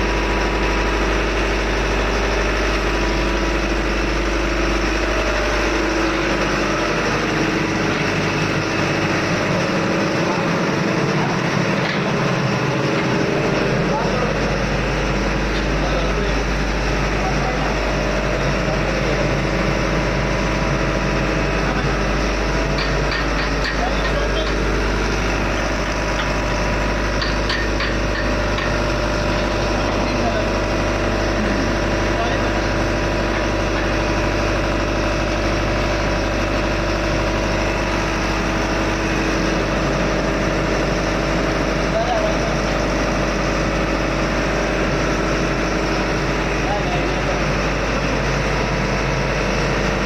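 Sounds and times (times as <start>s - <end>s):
engine-room machinery drone: 0.0s - 50.0s.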